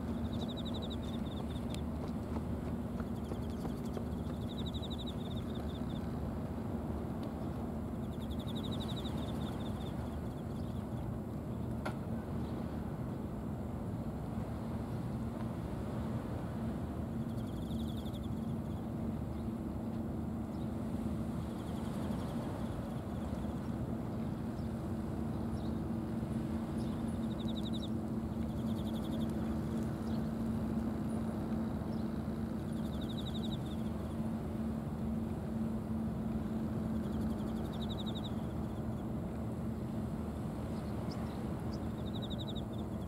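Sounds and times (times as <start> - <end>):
boat engines droning: 0.0 - 43.0.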